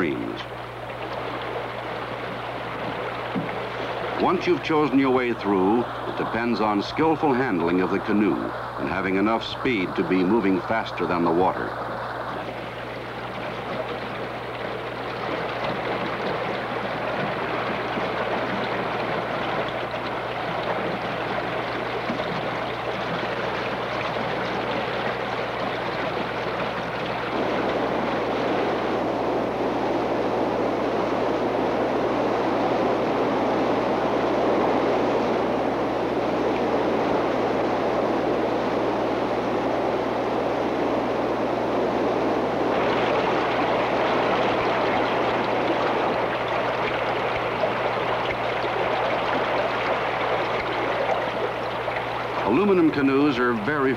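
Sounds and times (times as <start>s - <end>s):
constant low hum: 0.0s - 53.9s
water rushing through rapids: 0.0s - 53.9s.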